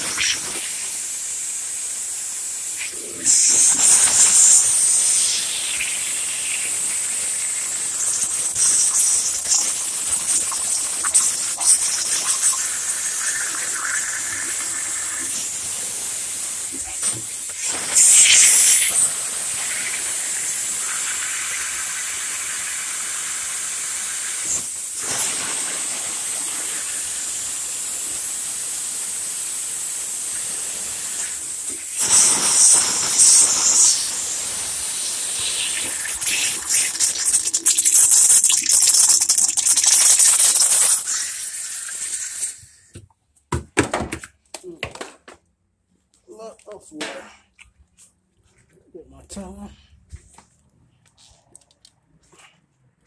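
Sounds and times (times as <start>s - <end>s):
hiss of spray: 0.0s - 42.9s.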